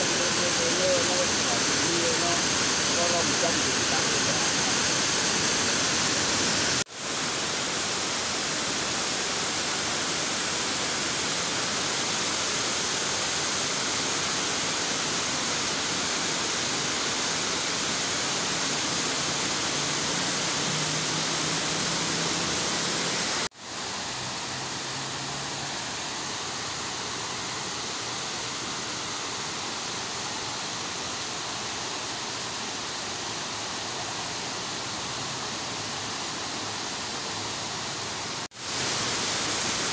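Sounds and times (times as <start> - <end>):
river water pouring over weir: 0.0 - 39.9.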